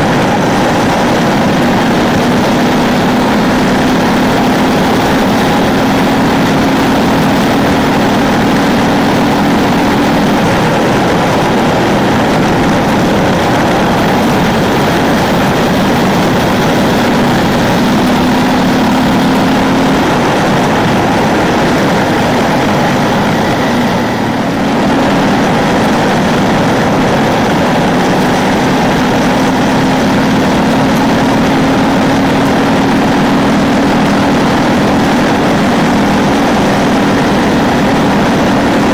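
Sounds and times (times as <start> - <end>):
motorcycle engine at road speed: 0.0 - 38.9
steady rush of noise: 0.0 - 38.9.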